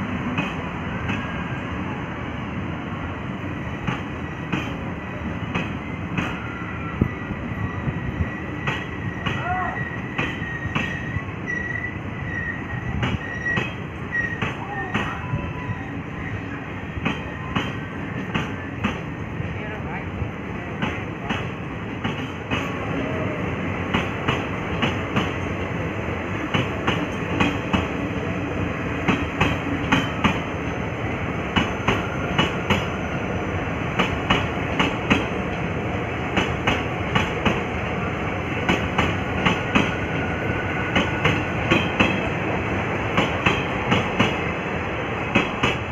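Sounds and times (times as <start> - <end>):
train coaches rumbling past: 0.0 - 45.9.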